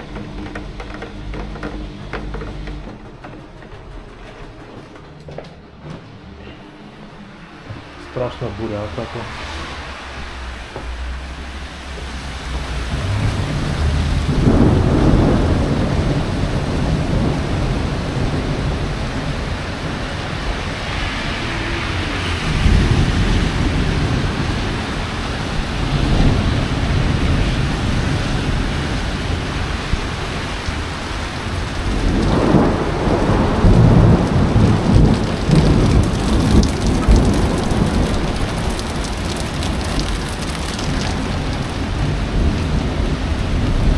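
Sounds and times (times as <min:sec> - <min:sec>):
thunder rumbling: 0:00.0 - 0:43.9
heavy rain hissing: 0:06.6 - 0:43.9.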